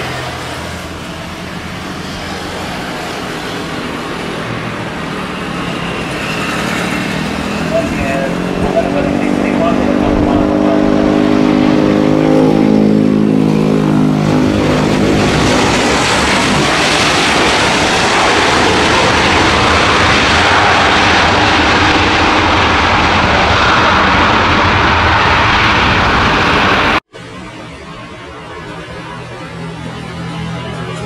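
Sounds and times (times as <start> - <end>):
broad loud roar: 0.0 - 31.0
jet engines whining: 0.0 - 31.0.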